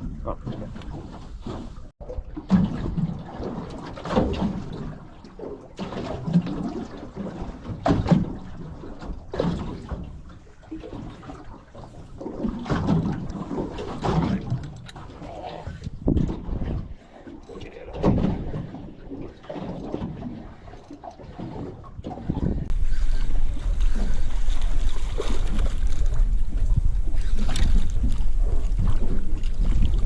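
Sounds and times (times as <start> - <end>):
water slapping against boat hull: 0.0 - 30.0.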